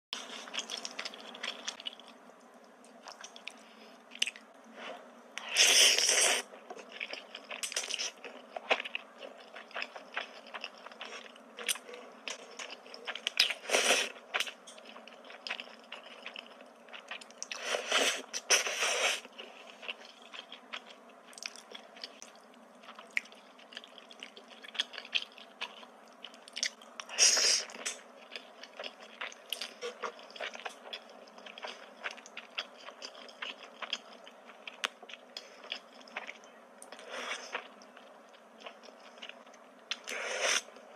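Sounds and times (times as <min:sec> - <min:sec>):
wet chewing: 0:05.4 - 0:40.7.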